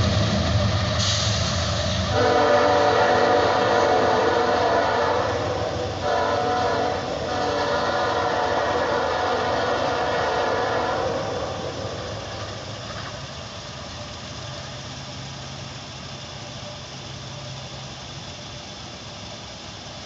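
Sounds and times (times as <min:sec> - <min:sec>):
train engine and rail noise: 0:00.0 - 0:20.0.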